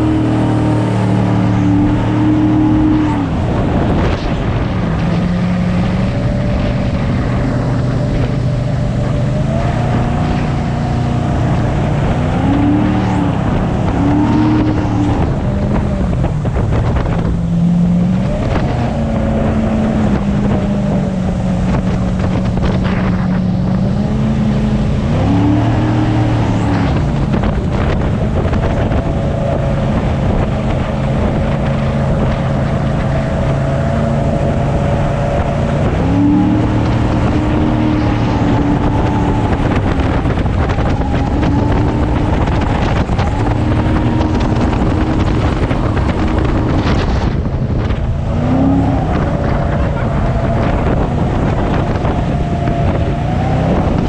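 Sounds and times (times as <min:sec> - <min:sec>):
jet boat engine revving: 0:00.0 - 0:54.0
water rushing: 0:00.0 - 0:54.0
wind buffeting microphone: 0:00.0 - 0:54.0.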